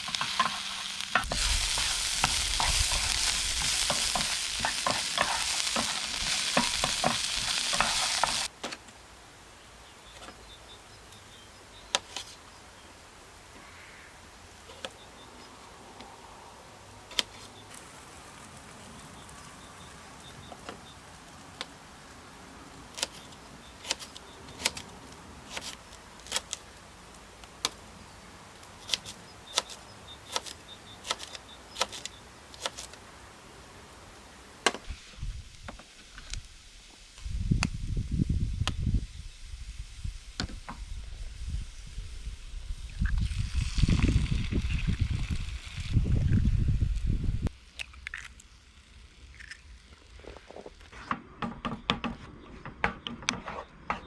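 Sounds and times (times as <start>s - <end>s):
faint hiss: 0.0s - 51.0s.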